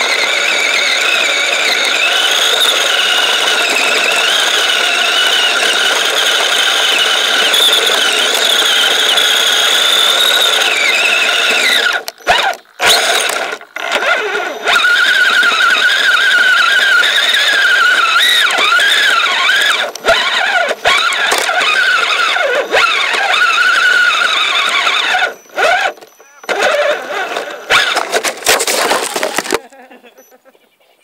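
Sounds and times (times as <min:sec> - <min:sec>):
electric motor whining: 0:00.0 - 0:29.6.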